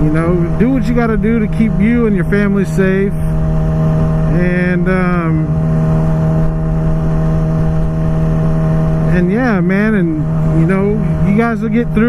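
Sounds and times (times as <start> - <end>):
motorcycle engine cruising: 0.0 - 12.0
wind rumbling on microphone: 0.0 - 12.0.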